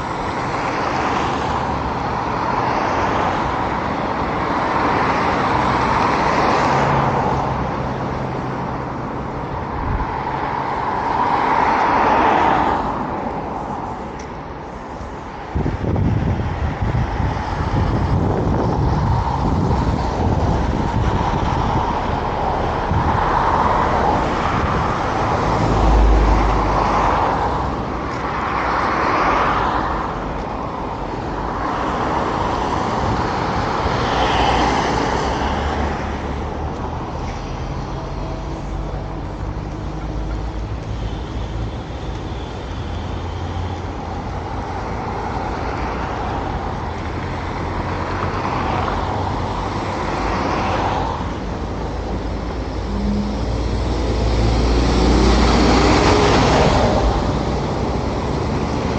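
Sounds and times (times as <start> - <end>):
cars passing: 0.0 - 58.9
steady road hum: 0.0 - 58.9.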